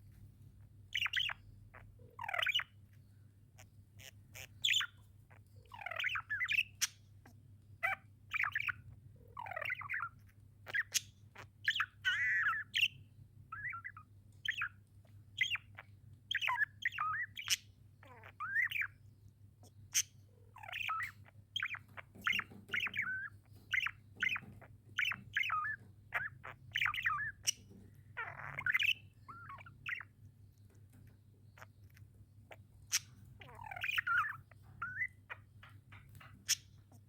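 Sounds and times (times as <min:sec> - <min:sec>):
budgerigars chirping: 0:00.6 - 0:37.0.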